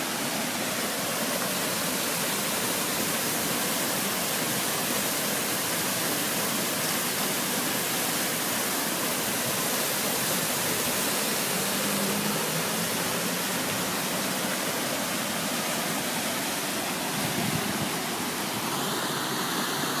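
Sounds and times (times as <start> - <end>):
water rushing down canal: 0.0 - 20.0.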